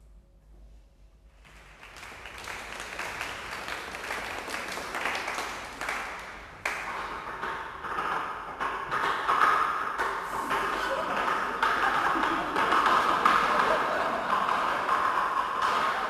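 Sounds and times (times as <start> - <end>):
audience applauding: 1.4 - 16.0.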